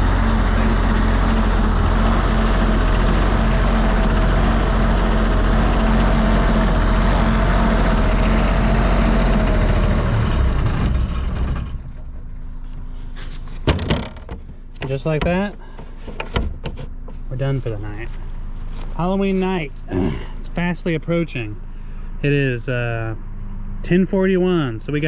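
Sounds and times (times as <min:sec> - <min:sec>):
diesel generator engine running: 0:00.0 - 0:25.0.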